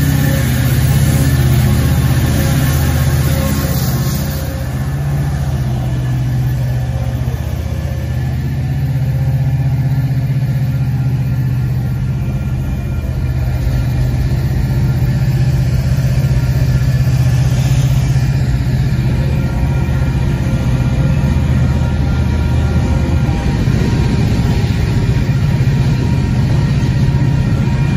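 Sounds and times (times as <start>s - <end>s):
diesel locomotive engines droning: 0.0s - 27.9s
wheels hissing on rail: 0.0s - 27.9s.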